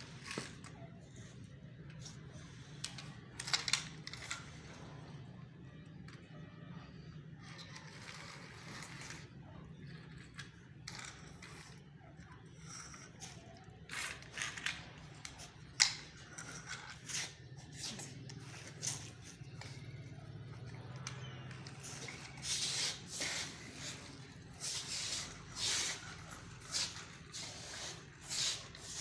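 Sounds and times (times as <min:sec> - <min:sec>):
toy tractor scrapes and clicks: 0:00.0 - 0:29.0.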